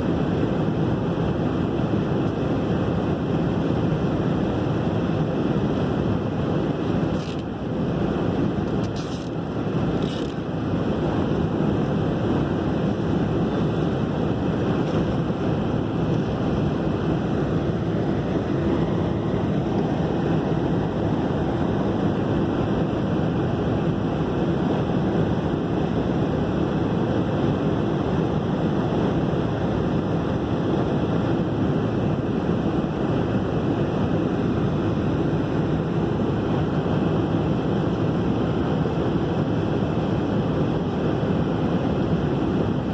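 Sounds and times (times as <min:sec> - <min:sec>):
jet engine roar in cabin: 0:00.0 - 0:42.9.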